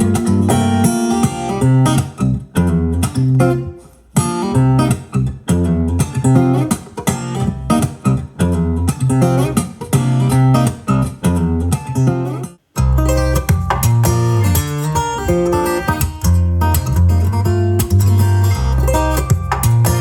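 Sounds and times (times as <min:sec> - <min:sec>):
acoustic guitar music with bass: 0:00.0 - 0:20.0.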